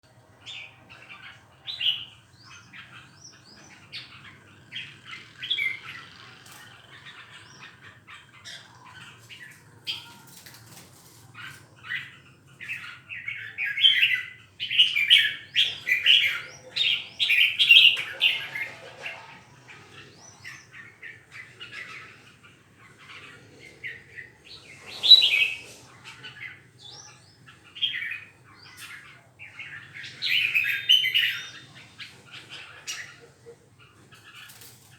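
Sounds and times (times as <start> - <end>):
songbird chirping: 0.0 - 34.9.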